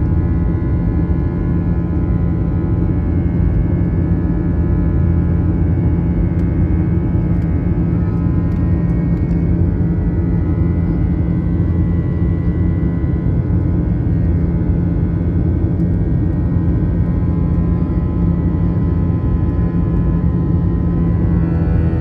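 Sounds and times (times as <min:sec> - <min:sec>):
jet engine whine: 0:00.0 - 0:22.0.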